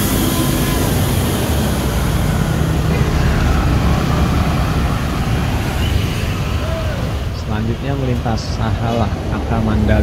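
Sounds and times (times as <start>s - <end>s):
diesel bus engine rumble: 0.0s - 10.0s.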